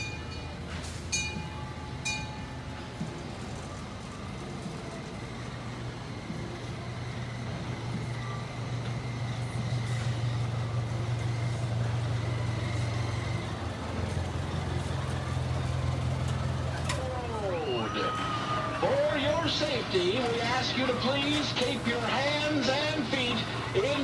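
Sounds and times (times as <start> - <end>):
locomotive engine humming: 0.0 - 24.0.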